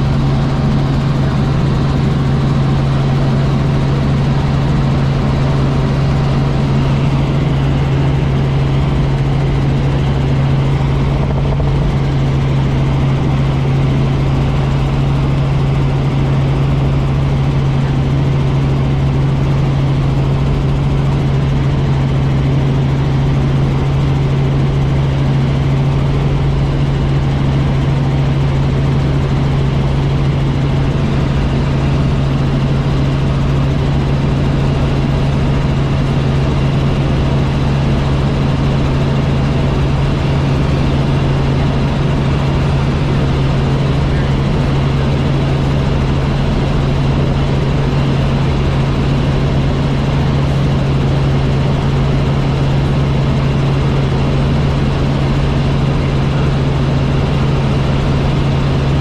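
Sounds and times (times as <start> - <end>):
helicopter rotor and engine drone: 0.0 - 59.0.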